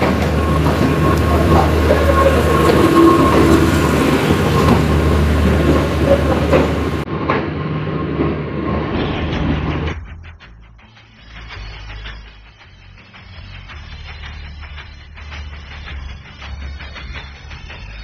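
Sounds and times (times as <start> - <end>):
train rumble: 0.0 - 18.0
train wheels clacking on rail joints: 0.0 - 18.0.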